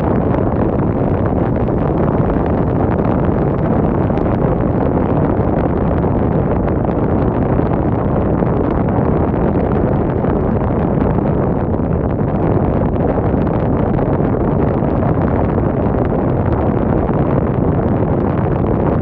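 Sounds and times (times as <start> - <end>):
strong wind rushing: 0.0 - 19.0.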